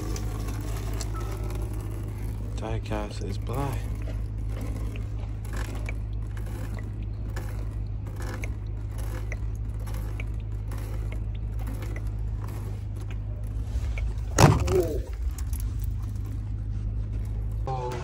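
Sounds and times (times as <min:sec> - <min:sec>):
electric fuel pump humming: 0:00.0 - 0:18.0.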